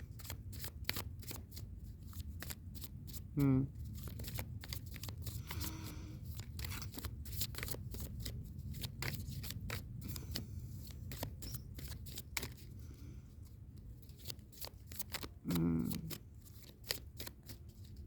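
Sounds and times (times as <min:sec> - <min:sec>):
cards shuffled: 0:00.0 - 0:18.0
steady low hum: 0:00.0 - 0:18.0.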